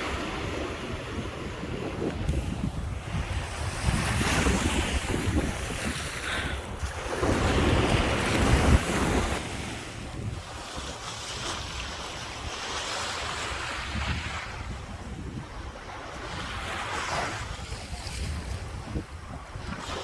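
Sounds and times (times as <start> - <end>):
ocean surf washing in: 0.0 - 17.7
wind buffeting microphone: 0.0 - 20.0.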